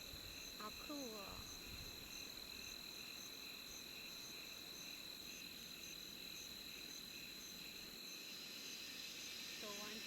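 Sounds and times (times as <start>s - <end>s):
insect buzzing and chirping: 0.0s - 10.0s.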